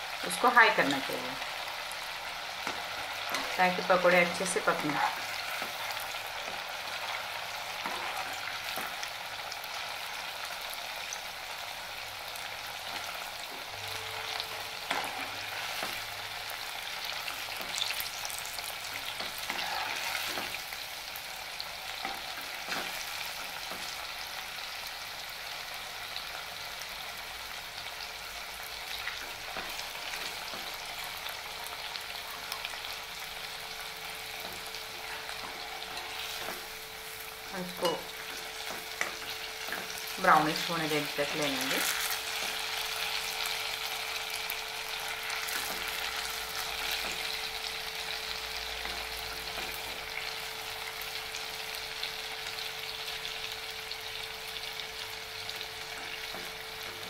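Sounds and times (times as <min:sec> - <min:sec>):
fritters sizzling in hot oil: 0:00.0 - 0:57.0.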